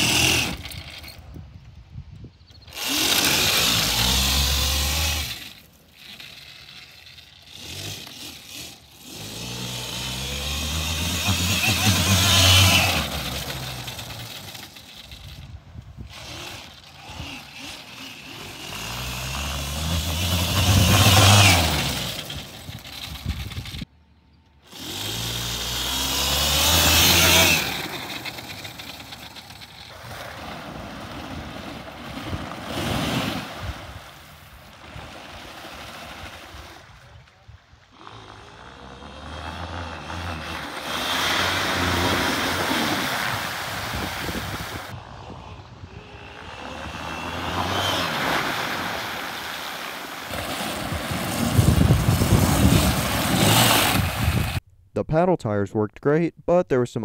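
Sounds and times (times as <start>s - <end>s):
electric motor and chain whine: 0.0s - 1.5s, 2.5s - 30.1s, 37.9s - 54.6s.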